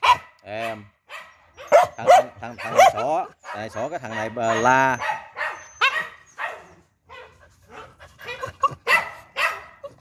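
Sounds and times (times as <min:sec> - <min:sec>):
dogs yelping and whining: 0:01.2 - 0:10.0.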